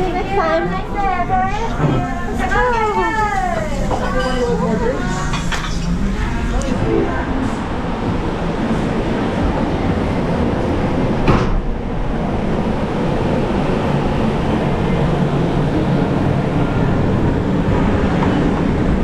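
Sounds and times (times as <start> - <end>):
moving vehicle rumble: 1.3 - 19.0.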